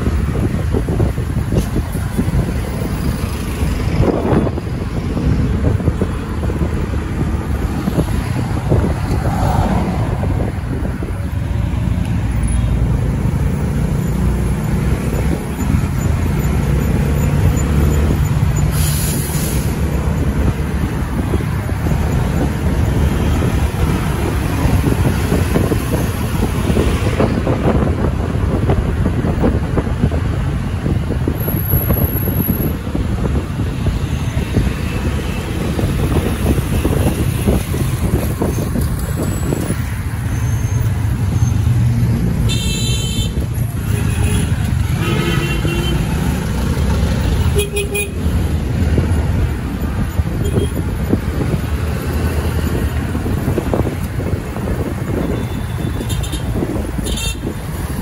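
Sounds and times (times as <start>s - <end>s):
cars and trucks passing: 0.0s - 58.0s
road noise: 0.0s - 58.0s.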